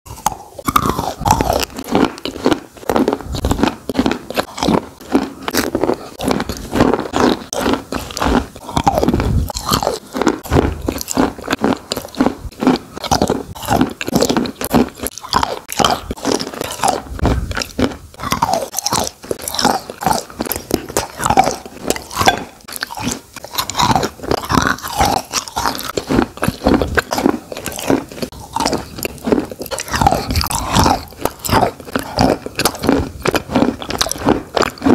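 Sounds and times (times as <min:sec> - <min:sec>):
chalk crunching while chewed: 0:00.1 - 0:34.9.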